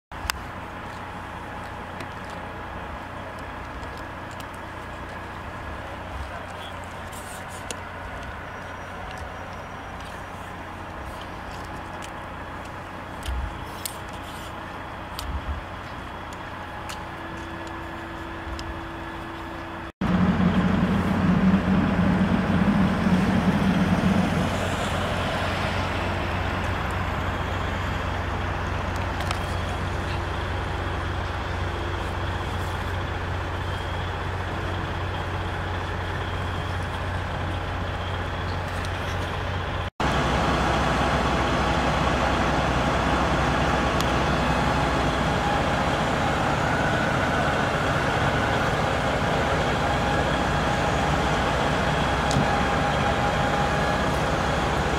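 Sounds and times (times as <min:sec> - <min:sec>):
fire engine running: 0:00.1 - 0:54.9.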